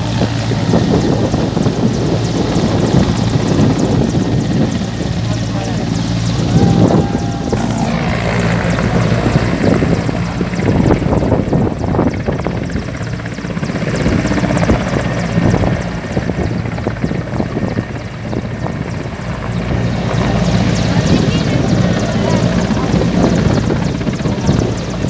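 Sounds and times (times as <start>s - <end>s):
helicopter engine drone: 0.0s - 25.0s
rotor blades beating: 1.8s - 25.0s.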